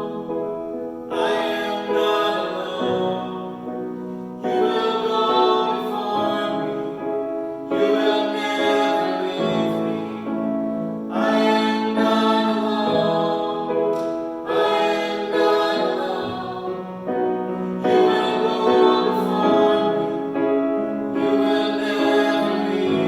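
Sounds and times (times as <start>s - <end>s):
church music with singing: 0.0s - 23.0s.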